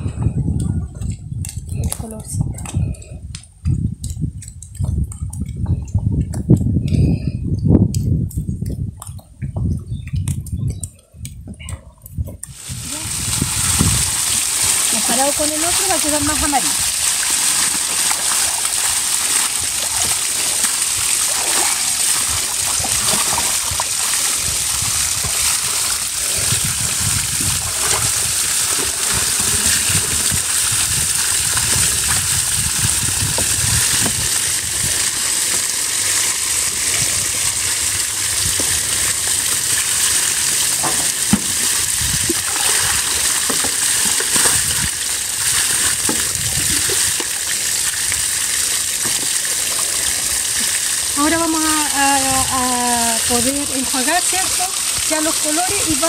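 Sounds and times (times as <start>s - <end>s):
water splashing and dripping: 0.0s - 56.0s.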